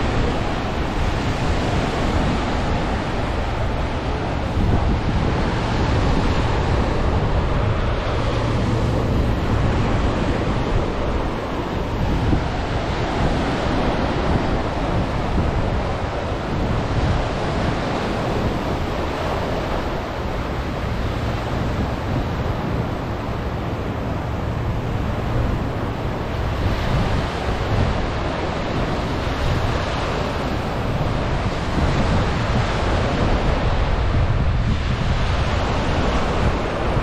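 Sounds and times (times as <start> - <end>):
small waves breaking on beach: 0.0 - 37.0
wind rumbling on microphone: 0.0 - 37.0.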